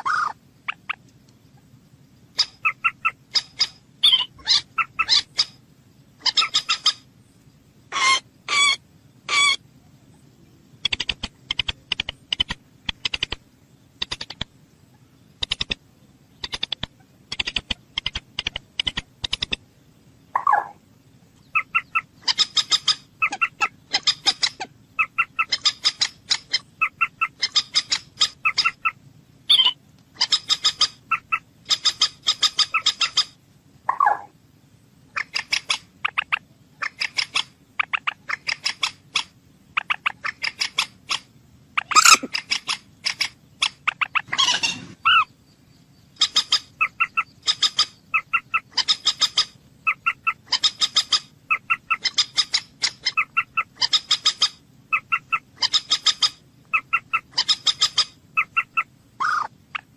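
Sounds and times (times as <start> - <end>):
moorhen clicking calls: 0.0 - 1.7, 2.3 - 5.6, 6.2 - 7.1, 7.9 - 9.6, 10.8 - 13.4, 14.0 - 19.7, 20.3 - 20.8, 21.4 - 34.4, 35.1 - 45.4, 46.0 - 59.9.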